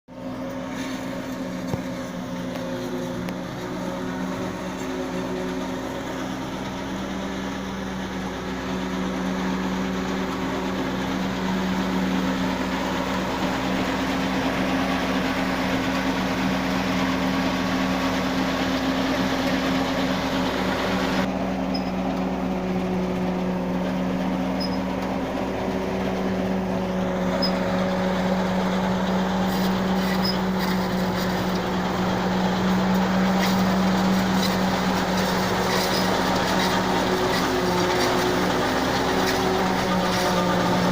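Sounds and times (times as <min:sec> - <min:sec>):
tractor and harvester droning: 0:00.1 - 0:40.9.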